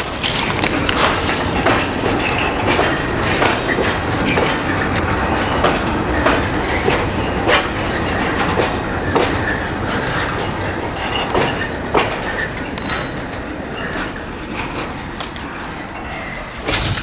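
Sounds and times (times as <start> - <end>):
freight train wheels rumbling on rail: 0.0 - 17.0
wheels clanking over rail joints: 0.0 - 17.0.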